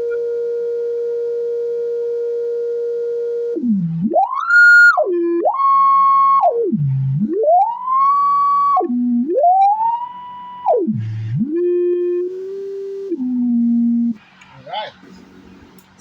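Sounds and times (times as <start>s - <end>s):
sweeping test tone from speaker: 0.0s - 15.8s.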